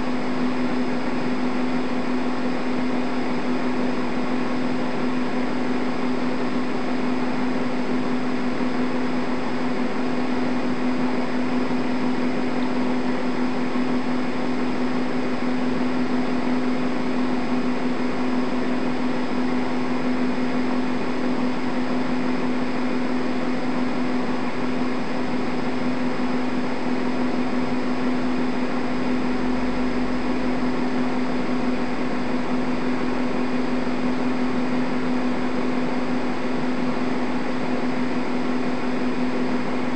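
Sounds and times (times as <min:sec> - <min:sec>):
mechanical hum and whir: 0:00.0 - 0:39.9.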